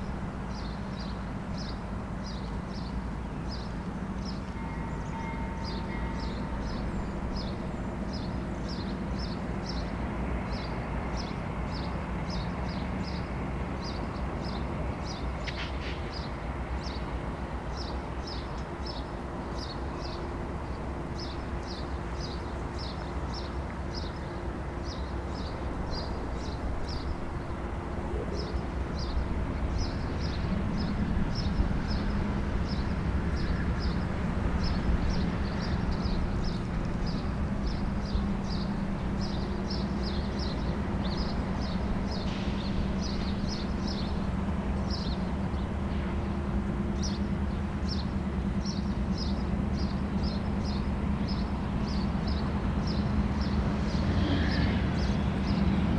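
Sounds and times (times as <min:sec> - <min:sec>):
diesel locomotive engine drone: 0:00.0 - 0:55.9.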